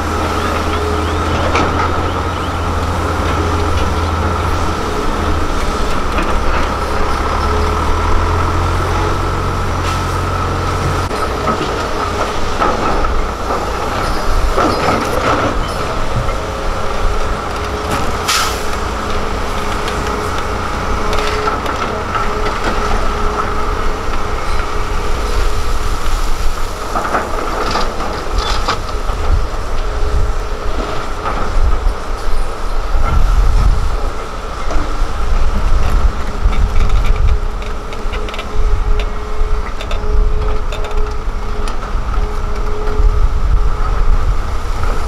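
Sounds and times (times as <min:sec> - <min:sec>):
excavator diesel engine whine: 0:00.0 - 0:45.0.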